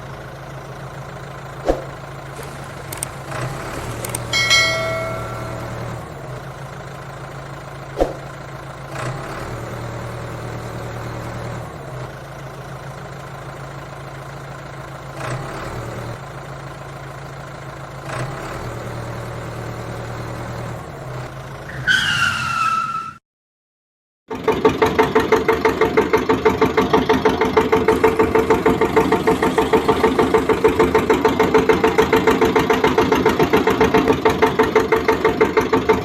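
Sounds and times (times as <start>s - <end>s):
tractor engine droning: 0.1s - 21.7s, 24.3s - 36.0s.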